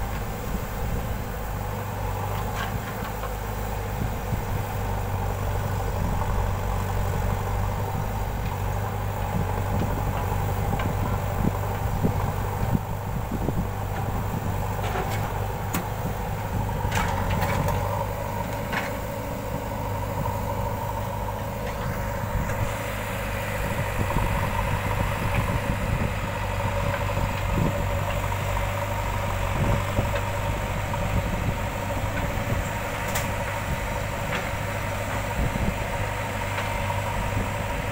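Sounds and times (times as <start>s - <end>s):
heavy machinery diesel engine running: 0.0s - 37.9s.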